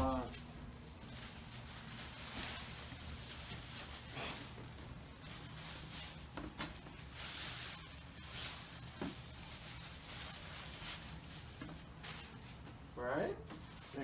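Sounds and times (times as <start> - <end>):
low steady hum: 0.0 - 14.0
rustling and handling noises: 0.0 - 14.0.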